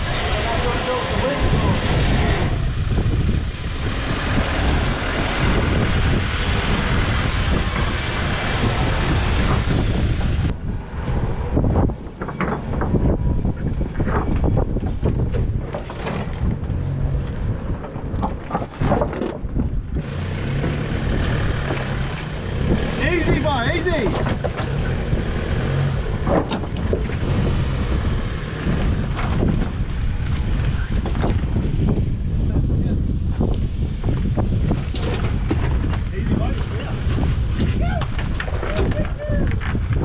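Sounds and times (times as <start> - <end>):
dense rushing noise: 0.0 - 40.0
truck engine under load: 0.0 - 40.0.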